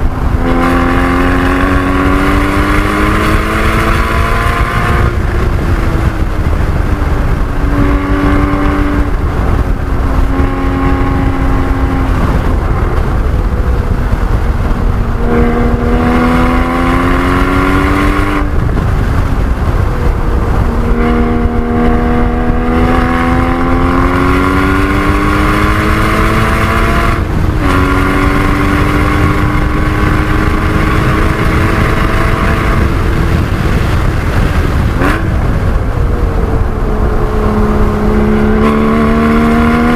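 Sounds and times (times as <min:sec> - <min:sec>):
road and wind rumble: 0:00.0 - 0:39.9
sports car engine accelerating: 0:00.0 - 0:39.9.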